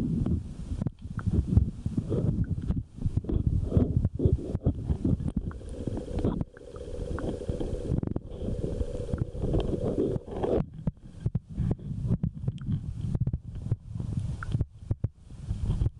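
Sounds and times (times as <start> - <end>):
underwater rumbling and gurgling: 0.0 - 15.1
faint steady hum: 0.0 - 15.9.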